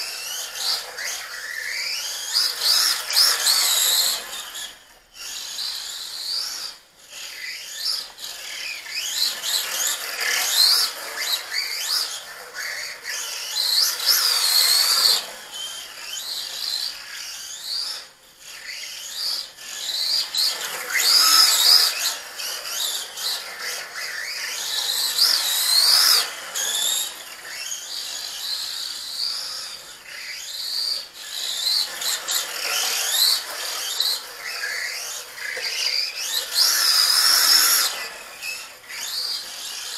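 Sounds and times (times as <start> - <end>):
rc truck motor whining: 0.0 - 39.9.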